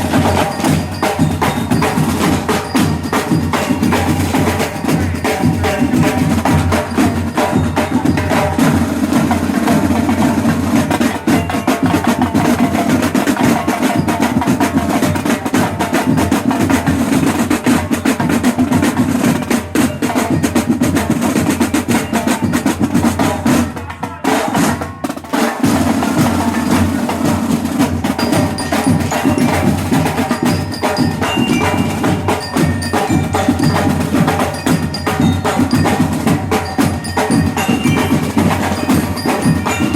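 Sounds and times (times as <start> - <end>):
marching band drums: 0.0 - 39.9.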